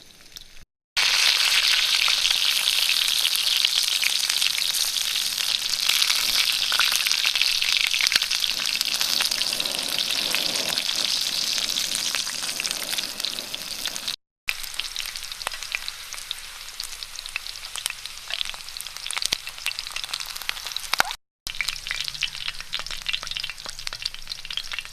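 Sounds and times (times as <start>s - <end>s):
food sizzling in a hot pan: 0.0s - 24.9s.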